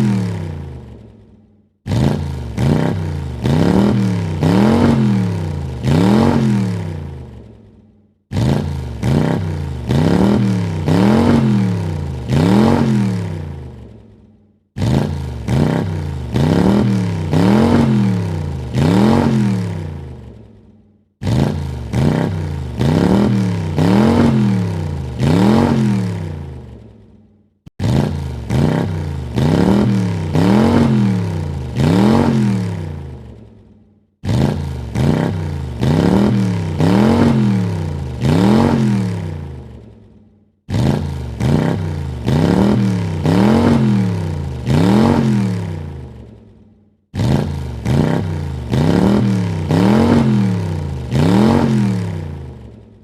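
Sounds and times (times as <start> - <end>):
car engine revving: 1.8 - 7.6, 8.3 - 14.0, 14.8 - 20.6, 21.2 - 26.9, 27.7 - 33.4, 34.2 - 39.9, 40.7 - 46.4, 47.2 - 52.8.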